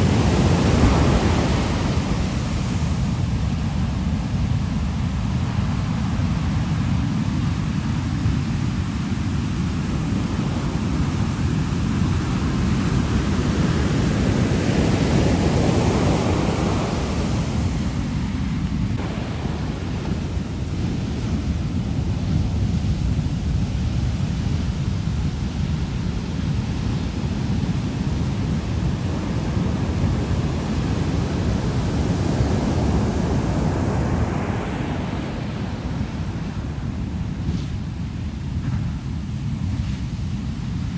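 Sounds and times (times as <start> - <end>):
heavy surf breaking on beach: 0.0 - 40.9.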